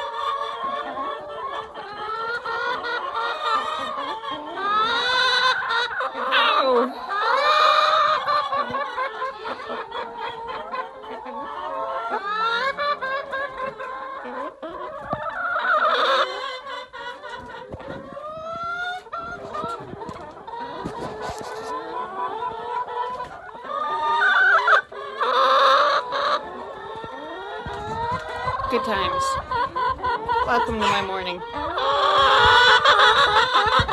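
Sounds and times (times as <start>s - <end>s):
hens clucking: 0.0s - 33.9s
hens squawking loudly: 0.0s - 33.9s.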